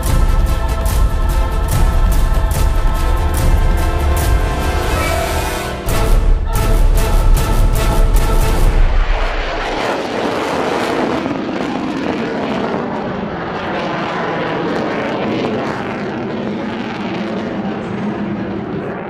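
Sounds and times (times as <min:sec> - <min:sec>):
aircraft engine in flight: 0:00.0 - 0:19.0.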